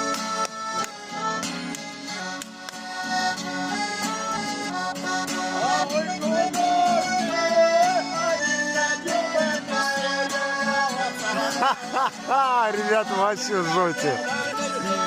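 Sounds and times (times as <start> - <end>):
accordion playing a tune: 0.0 - 15.0.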